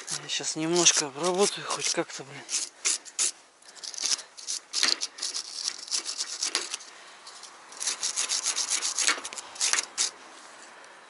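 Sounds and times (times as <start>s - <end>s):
rapid scrubbing strokes on metal: 0.0s - 10.2s.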